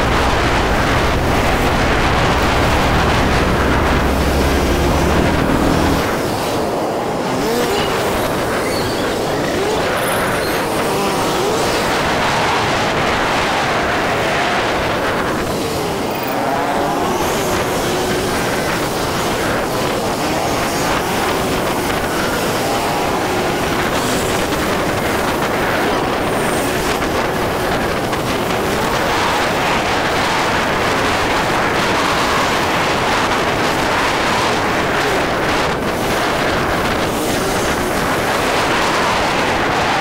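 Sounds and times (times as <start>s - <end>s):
motorbike engine revving: 0.0s - 40.0s
wind rush: 0.0s - 40.0s.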